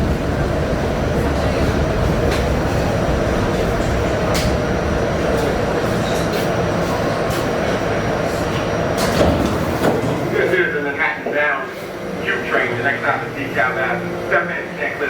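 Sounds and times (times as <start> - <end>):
subway wheels rumbling on track: 0.0 - 15.0.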